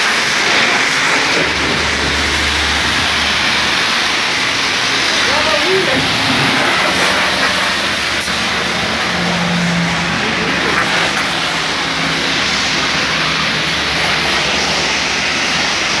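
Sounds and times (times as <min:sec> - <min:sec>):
pressure washer water spray hiss: 0:00.0 - 0:16.0.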